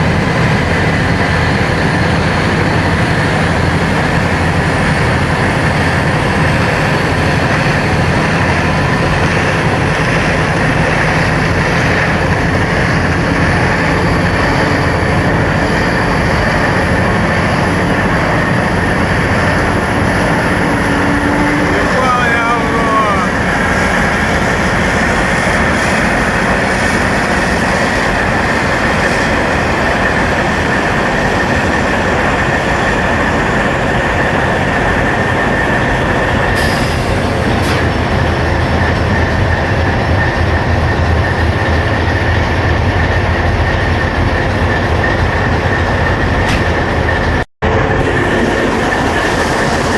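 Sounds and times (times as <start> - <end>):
diesel locomotive engine drone: 0.0 - 49.9
high whine: 0.0 - 49.9.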